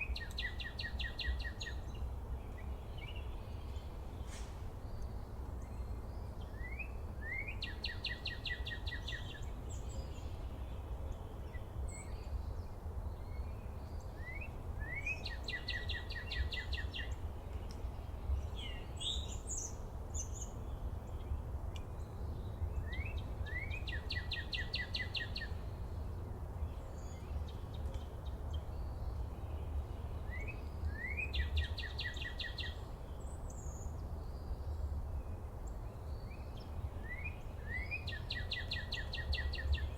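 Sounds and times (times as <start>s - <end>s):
songbird singing with trill: 0.0s - 39.9s.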